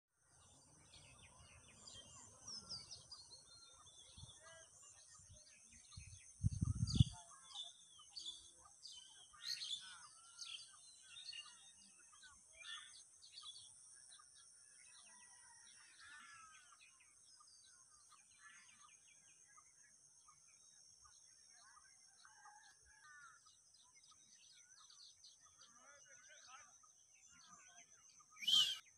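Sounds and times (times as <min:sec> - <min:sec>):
birds chirping and trilling: 0:00.2 - 0:28.9.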